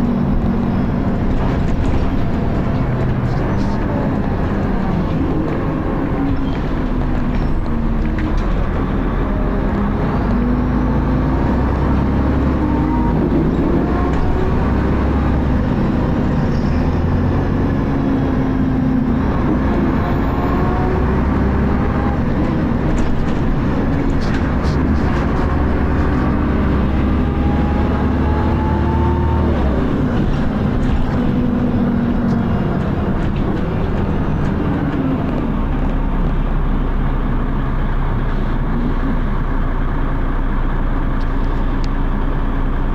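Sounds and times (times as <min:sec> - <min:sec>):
bus diesel engine running hard: 0:00.0 - 0:42.9.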